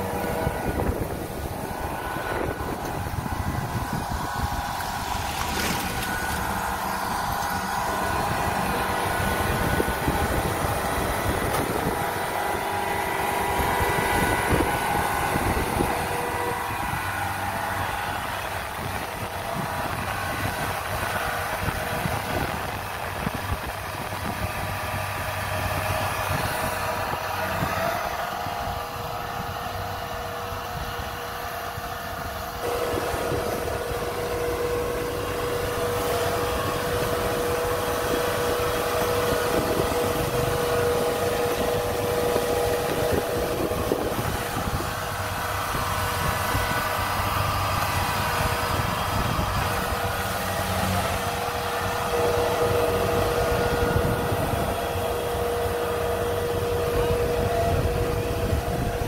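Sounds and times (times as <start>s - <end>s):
diesel engine running: 0.0s - 59.0s
steady whine: 0.0s - 59.0s.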